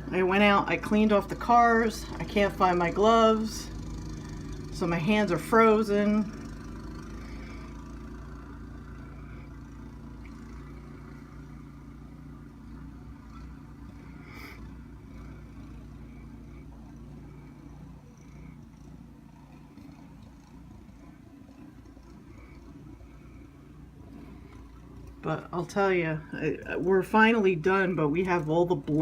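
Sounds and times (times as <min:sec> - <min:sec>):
snowblower engine running: 0:00.0 - 0:29.0.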